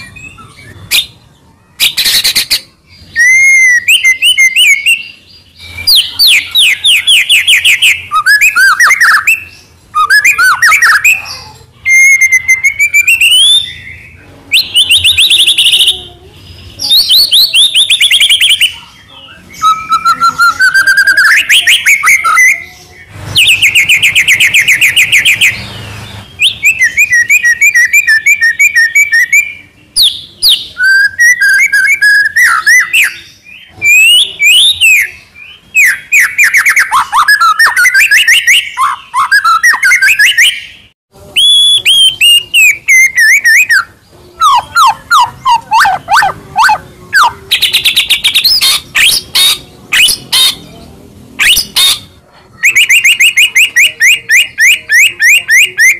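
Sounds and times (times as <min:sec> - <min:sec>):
bird singing trills and whistles: 0:00.0 - 0:55.9.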